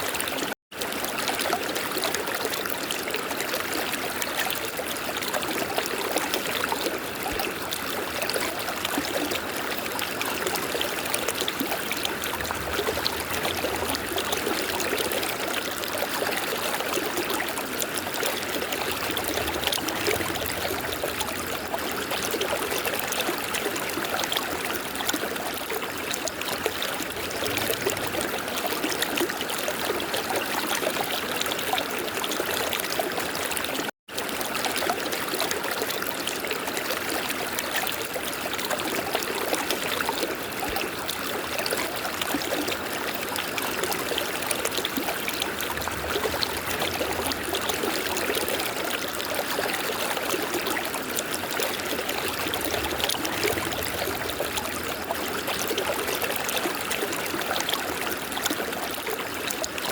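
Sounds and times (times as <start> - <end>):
river flowing: 2.3 - 30.3, 37.3 - 59.9.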